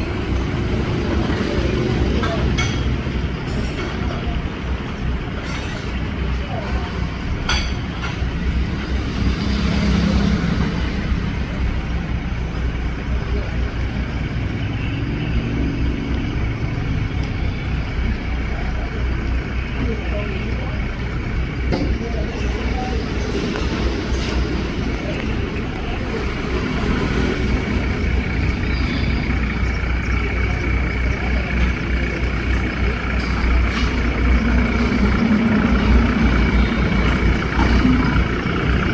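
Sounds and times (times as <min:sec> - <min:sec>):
boat engine rumbling: 0:00.0 - 0:38.9.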